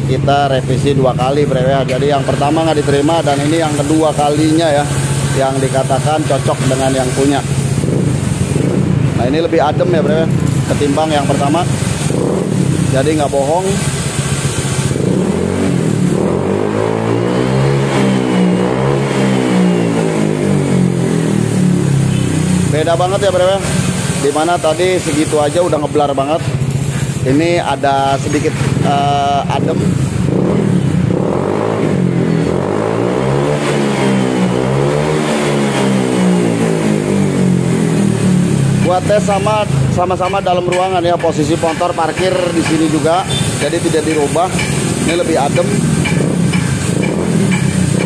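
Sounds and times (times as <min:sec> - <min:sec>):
scooter engine revving: 0:00.0 - 0:48.0.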